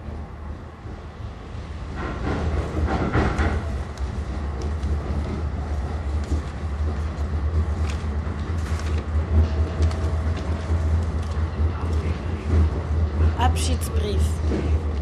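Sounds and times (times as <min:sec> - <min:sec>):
tram rumbling: 0:00.0 - 0:15.0.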